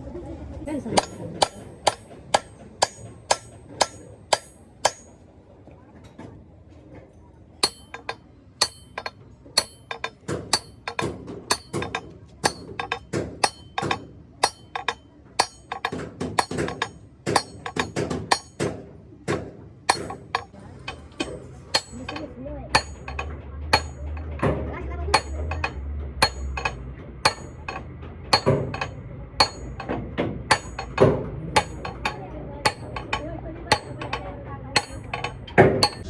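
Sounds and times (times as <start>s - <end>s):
hammer striking steel: 0.9s - 5.2s, 7.6s - 18.7s, 19.9s - 36.0s.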